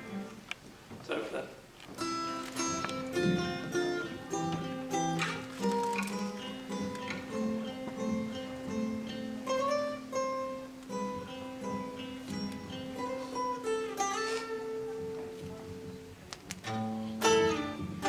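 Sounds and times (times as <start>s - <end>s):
acoustic guitar picking: 0.0s - 0.9s, 1.7s - 18.0s.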